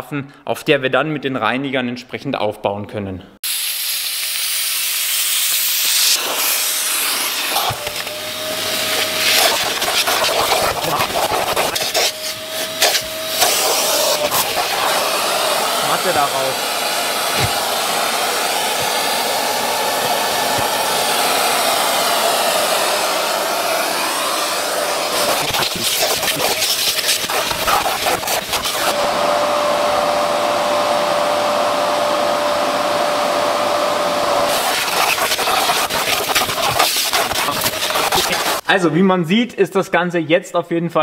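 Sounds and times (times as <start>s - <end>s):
vacuum cleaner running: 3.4s - 38.6s.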